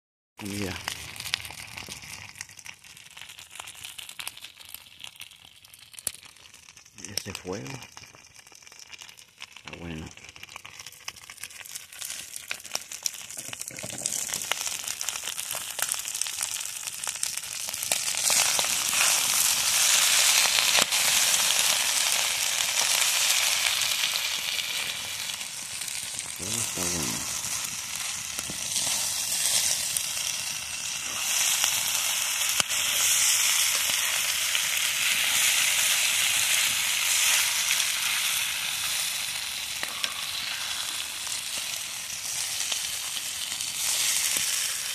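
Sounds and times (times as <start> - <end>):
rice sizzling in a skillet: 0.4 - 44.9
sharp crackles: 0.4 - 44.9.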